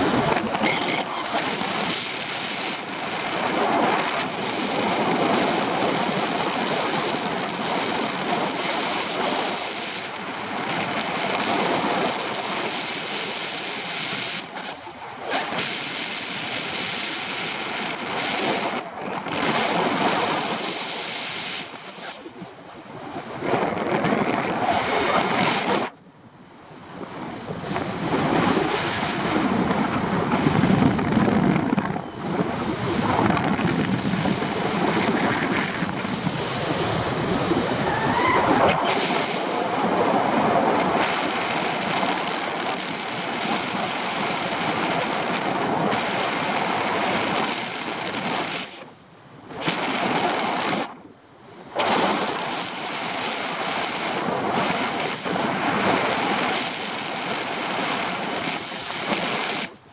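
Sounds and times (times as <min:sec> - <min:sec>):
gusty wind on microphone: 0:00.0 - 0:59.9.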